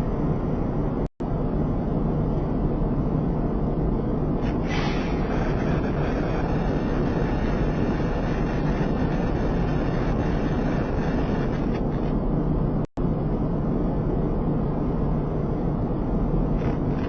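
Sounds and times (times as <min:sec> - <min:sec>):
steady low noise: 0:00.0 - 0:17.0.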